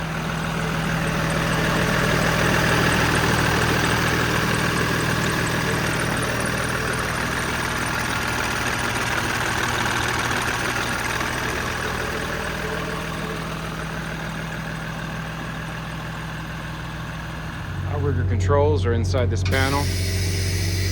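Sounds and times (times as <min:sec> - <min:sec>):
truck diesel engine idling: 0:00.0 - 0:20.9.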